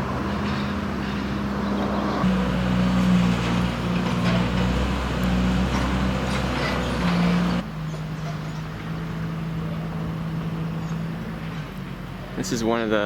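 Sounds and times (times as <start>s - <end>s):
road traffic noise: 0.0s - 13.0s
vehicle engine drone: 0.0s - 13.0s.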